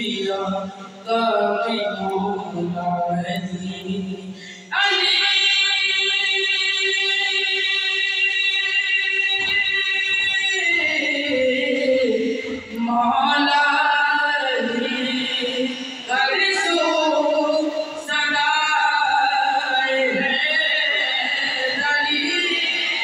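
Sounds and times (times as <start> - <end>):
man singing over pa: 0.0 - 23.0.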